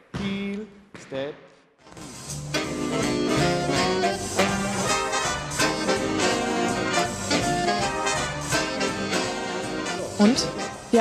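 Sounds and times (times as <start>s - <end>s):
swing music with brass: 2.0s - 11.0s.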